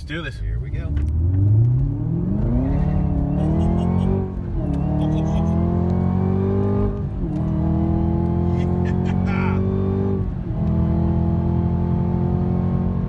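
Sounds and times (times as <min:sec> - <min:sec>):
car engine accelerating hard: 0:00.6 - 0:13.0.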